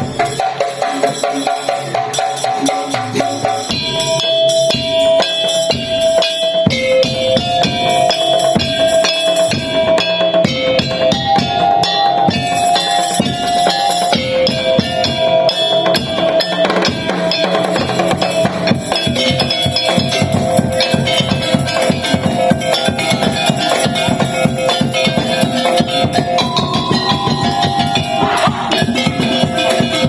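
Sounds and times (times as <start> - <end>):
fast drumming and percussion: 0.0 - 30.0
held melody line: 3.7 - 30.0.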